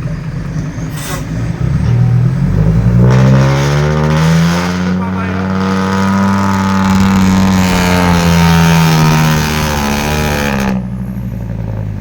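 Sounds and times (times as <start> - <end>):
diesel truck engine revving hard: 0.0 - 12.0.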